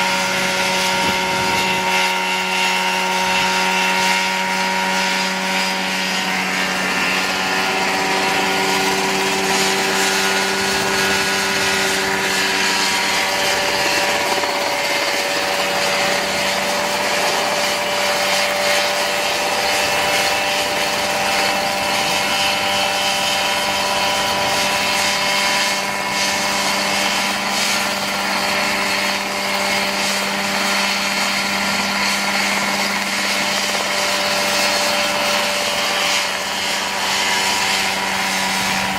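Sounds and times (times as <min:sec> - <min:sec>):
helicopter engine running: 0:00.0 - 0:38.9.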